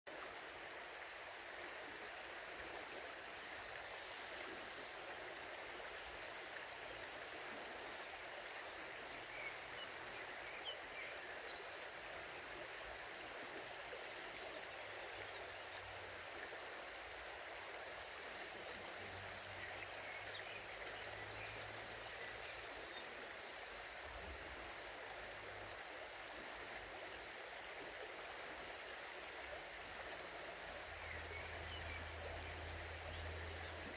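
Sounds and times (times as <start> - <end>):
river water flowing: 0.1 - 33.9.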